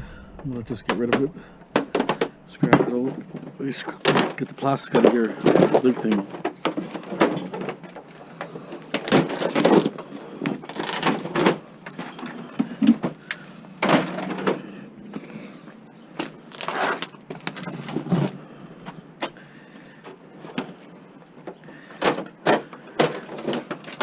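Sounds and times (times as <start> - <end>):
plastic cracking and scraping: 0.9 - 14.6, 16.1 - 18.4, 20.0 - 24.0.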